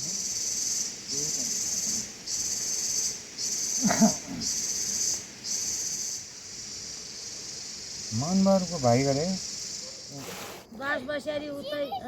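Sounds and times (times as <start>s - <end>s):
insect shrilling in pulses: 0.0s - 10.7s.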